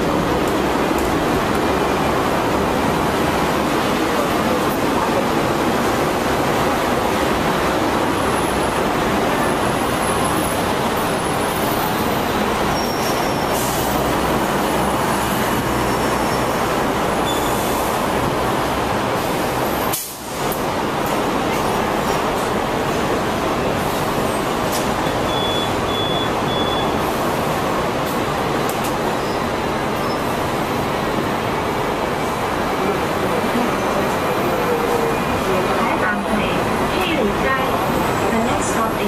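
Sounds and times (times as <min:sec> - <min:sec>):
tram rumbling on rails: 0:00.0 - 0:39.0.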